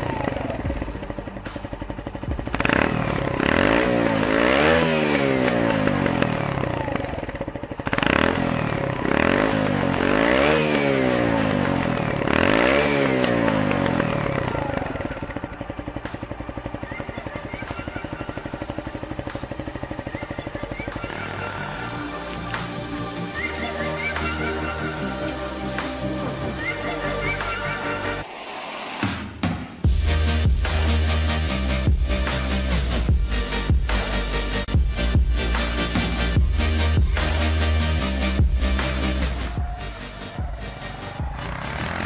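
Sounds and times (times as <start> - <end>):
motorcycle engine revving and idling: 0.0 - 28.3, 29.8 - 42.0.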